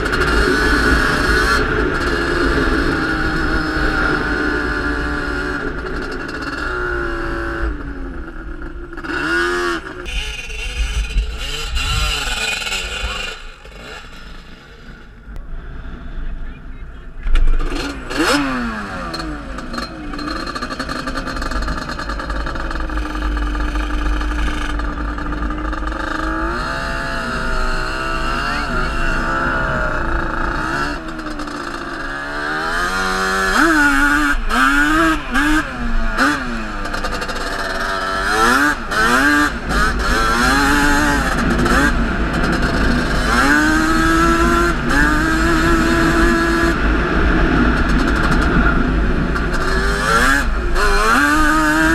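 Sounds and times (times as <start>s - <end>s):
quad engine revving: 0.0s - 15.1s, 17.2s - 51.9s.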